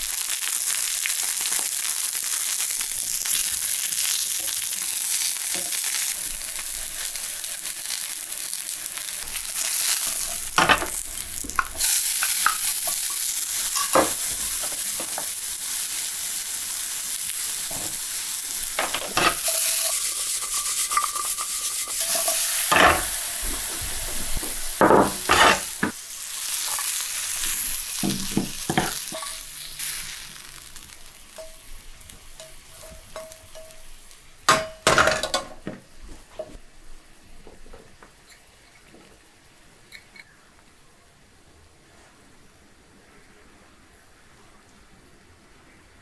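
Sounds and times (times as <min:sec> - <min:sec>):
vegetables sizzling in oil: 0:00.0 - 0:37.2.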